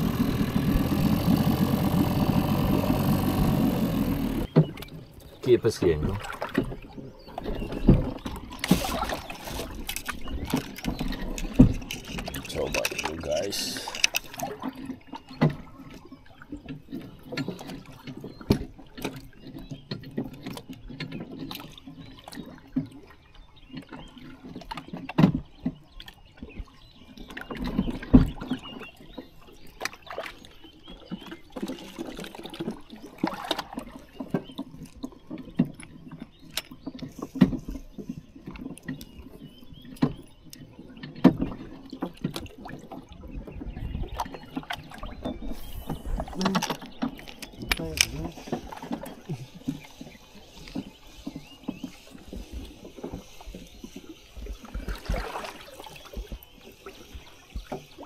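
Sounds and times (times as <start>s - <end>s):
water sloshing and splashing: 0.0s - 58.0s.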